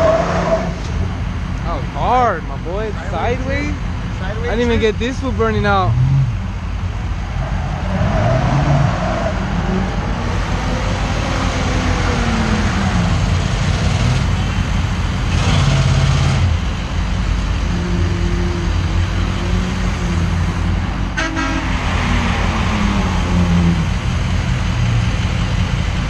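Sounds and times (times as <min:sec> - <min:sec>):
truck engine revving: 0:04.5 - 0:26.0.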